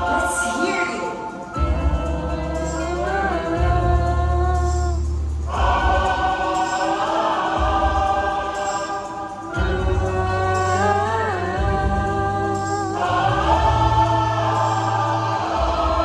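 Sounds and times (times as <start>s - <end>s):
choir singing in harmony: 0.0s - 16.0s
deep pulsing bass beat: 1.3s - 16.0s.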